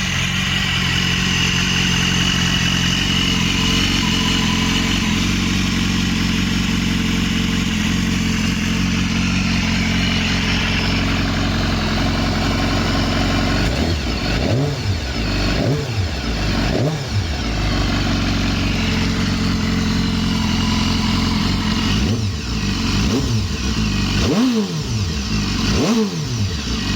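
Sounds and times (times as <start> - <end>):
motorcycle engine idling and revving: 0.0 - 26.9.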